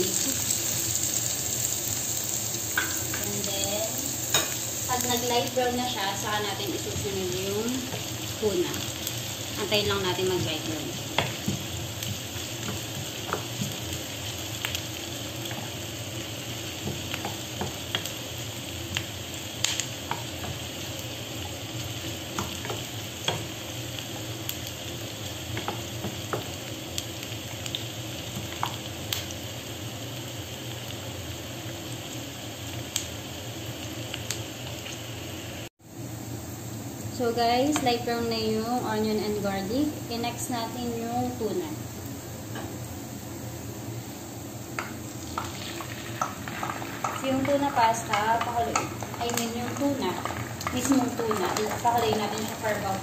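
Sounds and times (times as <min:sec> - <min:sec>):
garlic and onion sizzling in oil: 0:00.0 - 0:53.0.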